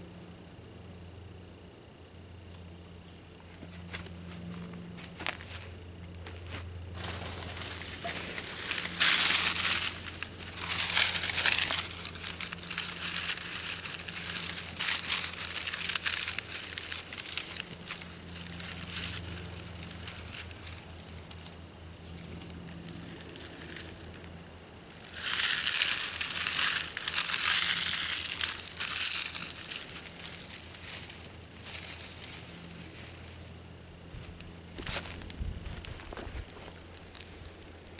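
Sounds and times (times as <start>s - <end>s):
campfire crackling and snapping: 0.2s - 37.9s.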